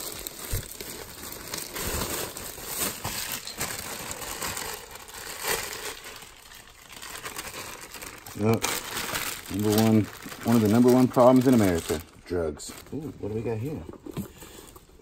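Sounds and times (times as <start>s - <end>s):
plastic bags rustling: 0.0s - 15.0s.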